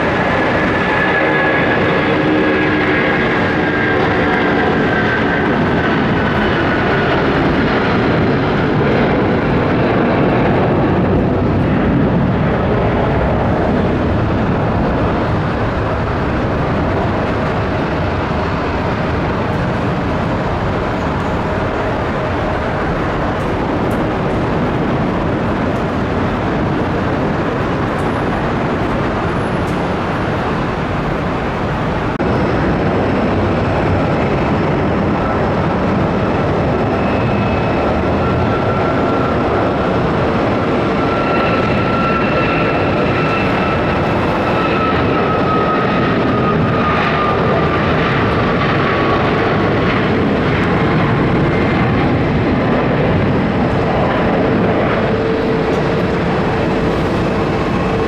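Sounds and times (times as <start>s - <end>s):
faint engine whine: 0.0s - 58.0s
jet engines roaring: 0.0s - 58.0s.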